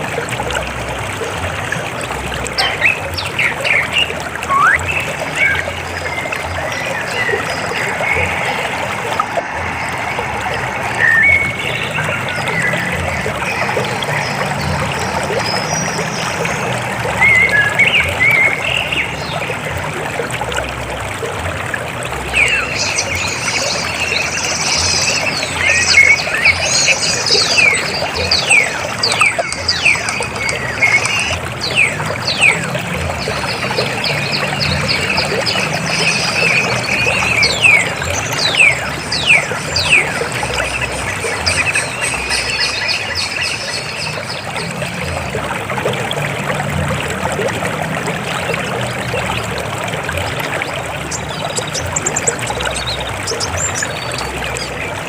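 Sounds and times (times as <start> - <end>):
river water flowing and gurgling: 0.0 - 55.0.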